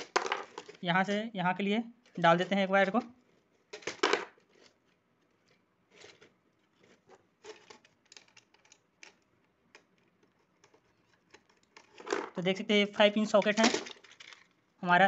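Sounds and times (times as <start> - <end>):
wire clicks and rustles: 0.0 - 1.2, 2.0 - 14.8.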